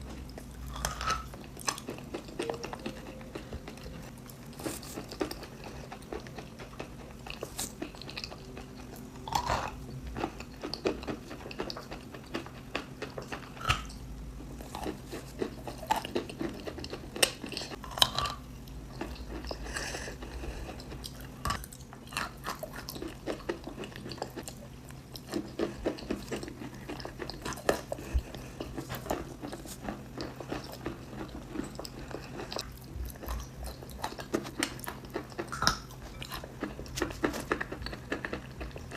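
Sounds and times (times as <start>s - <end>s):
chewing: 0.0s - 14.0s, 14.6s - 38.9s.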